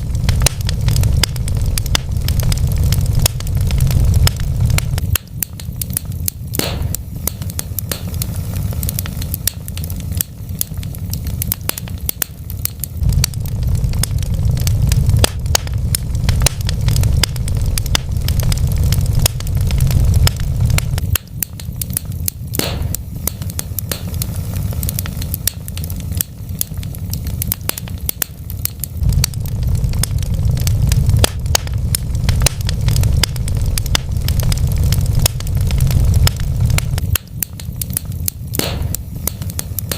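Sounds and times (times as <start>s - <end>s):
low rumble: 0.0s - 39.9s
wood fire crackling and popping: 0.0s - 39.9s.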